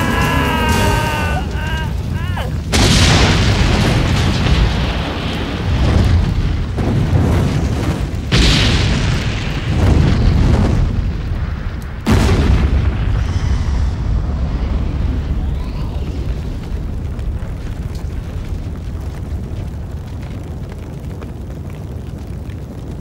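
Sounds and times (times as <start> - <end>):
fireball explosions with rumble: 0.0 - 23.0.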